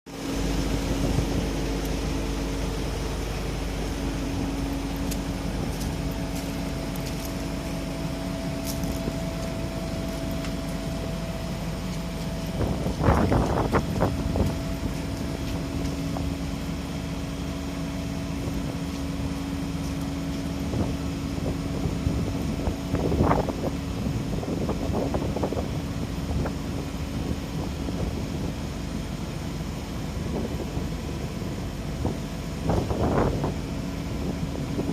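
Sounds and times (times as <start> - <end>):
diesel machinery running: 0.1 - 34.9
wind buffeting microphone: 0.4 - 34.9.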